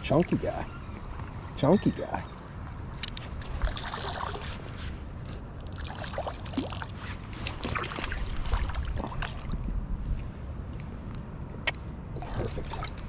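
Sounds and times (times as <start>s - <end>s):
steady low rumble: 2.2s - 13.0s.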